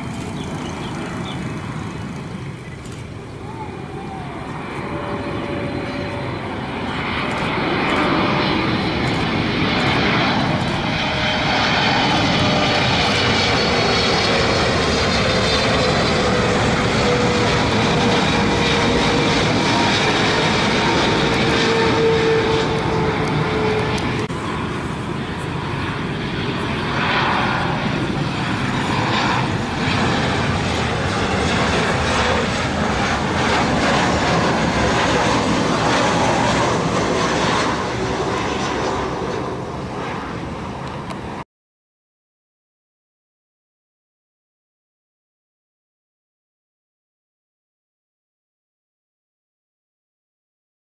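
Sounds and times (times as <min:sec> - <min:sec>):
jet engines on approach: 0:00.0 - 0:41.4
jet engine whine: 0:00.0 - 0:41.5.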